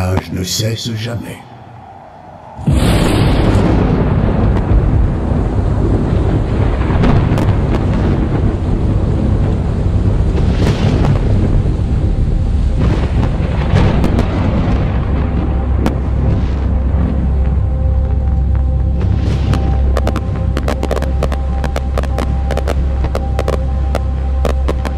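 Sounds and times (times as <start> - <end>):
thunder-like rumble: 1.8 - 24.9
firework bangs: 2.6 - 17.2, 19.0 - 24.9.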